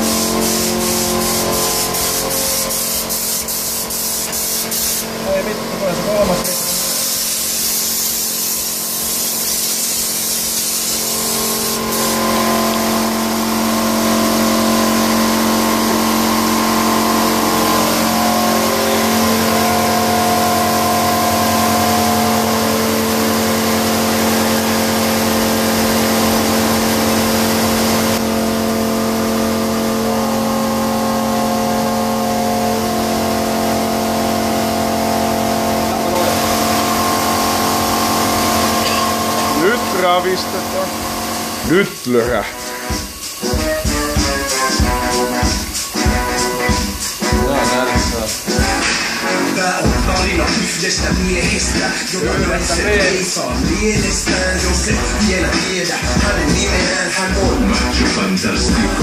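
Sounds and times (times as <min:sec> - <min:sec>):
spray gun hissing: 0:00.0 - 0:28.3, 0:34.9 - 0:58.4
air compressor humming: 0:00.0 - 0:59.0.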